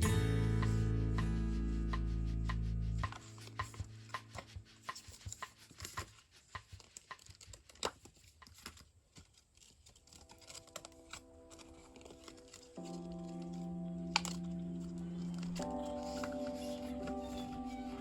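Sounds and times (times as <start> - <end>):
faint background music: 0.0 - 6.2, 9.6 - 18.0
album packaging clicks and rustles: 3.0 - 18.0.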